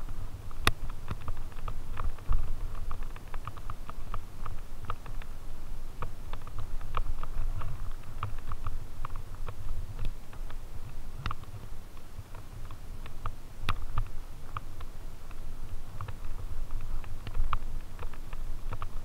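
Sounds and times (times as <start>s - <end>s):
bike rolling on dirt trail: 0.0s - 19.0s
dry leaves clicking and rattling: 0.0s - 19.0s.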